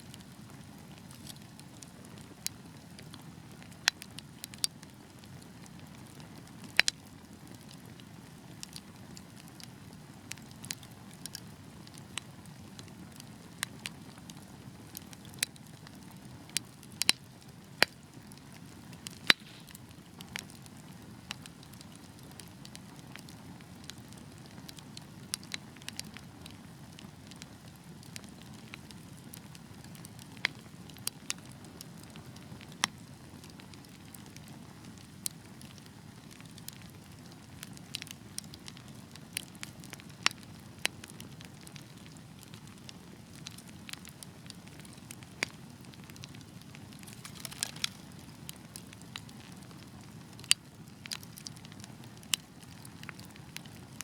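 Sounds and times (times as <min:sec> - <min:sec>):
logs crackling and popping: 0:00.1 - 0:54.0.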